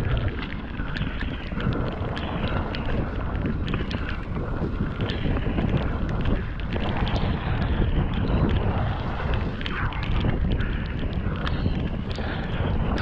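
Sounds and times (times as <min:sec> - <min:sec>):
bike tyres rolling on rocky trail: 0:00.0 - 0:13.0
wind rushing over microphone: 0:00.0 - 0:13.0.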